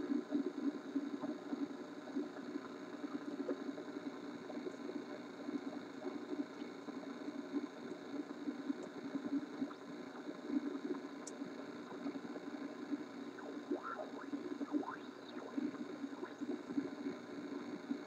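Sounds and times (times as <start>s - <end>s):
radio static and hum: 0.0s - 18.0s.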